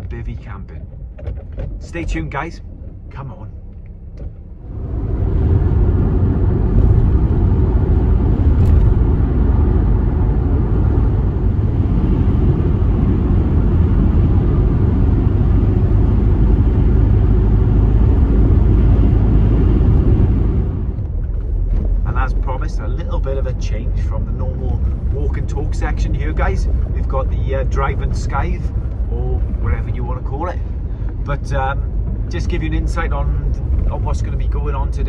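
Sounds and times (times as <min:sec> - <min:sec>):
van engine and road noise: 0:00.0 - 0:35.0.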